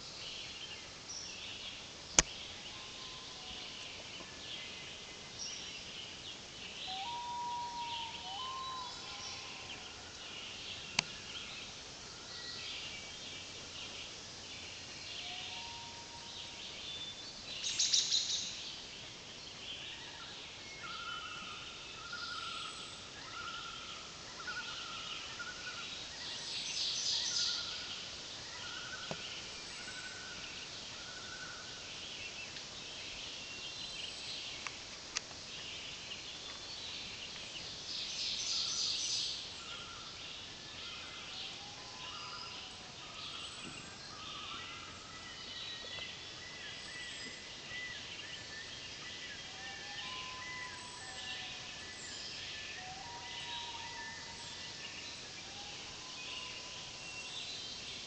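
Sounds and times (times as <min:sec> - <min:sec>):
songbirds chirping and whistling: 0:00.0 - 0:58.0.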